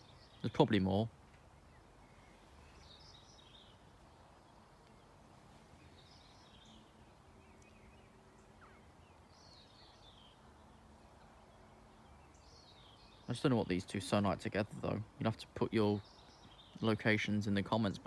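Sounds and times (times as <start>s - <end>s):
soft bird chirps: 0.0s - 18.0s.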